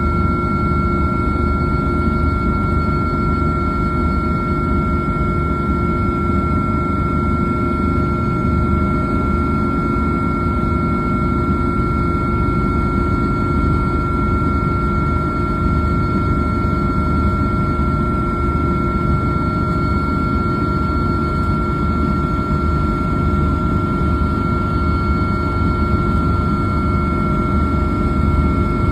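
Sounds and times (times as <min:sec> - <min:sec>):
helicopter rotor beat: 0:00.0 - 0:28.9
turbine whine: 0:00.0 - 0:28.9.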